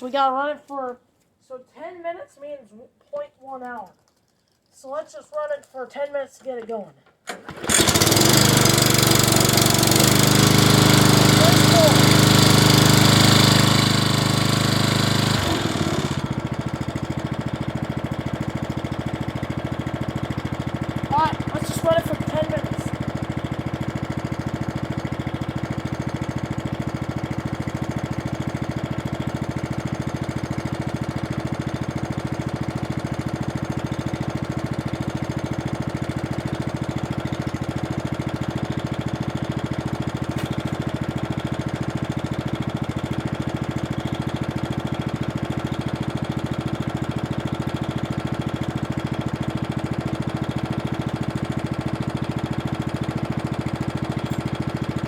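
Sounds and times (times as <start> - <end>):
lawn mower engine running: 7.3 - 55.0.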